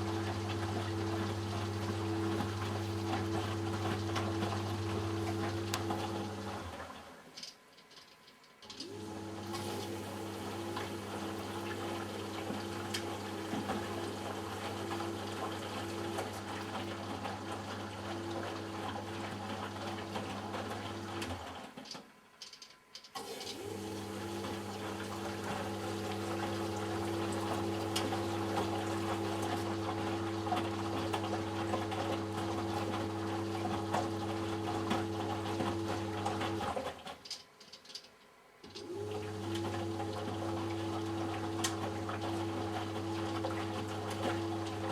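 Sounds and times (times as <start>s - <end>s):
washing machine motor humming: 0.0s - 7.4s, 8.7s - 21.8s, 23.2s - 37.2s, 38.6s - 44.9s
water and laundry sloshing: 0.0s - 7.4s, 8.8s - 21.8s, 23.2s - 37.3s, 38.7s - 44.9s.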